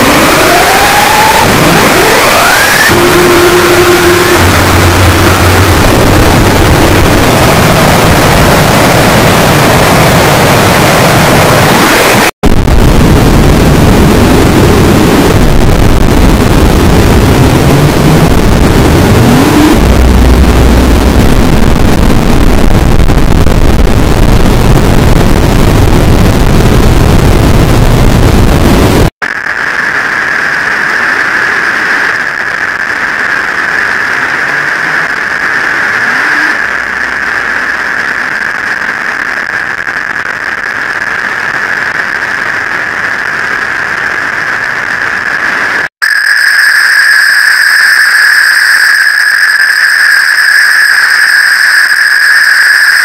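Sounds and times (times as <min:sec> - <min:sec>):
distorted electronic noise: 0:00.0 - 0:53.0
harsh static noise: 0:00.0 - 0:53.0
low hum: 0:00.0 - 0:53.0.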